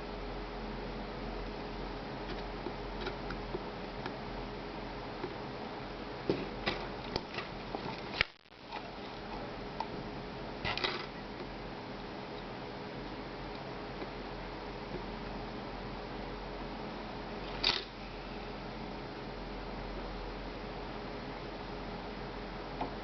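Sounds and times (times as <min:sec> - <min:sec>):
soldering station fan hiss: 0:00.0 - 0:23.0.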